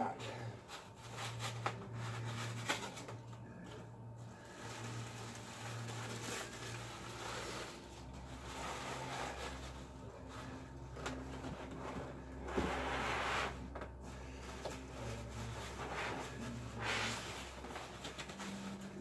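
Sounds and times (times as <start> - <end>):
faint low hum: 0.0 - 19.0
tissue paper rustling and crinkling: 0.5 - 19.0.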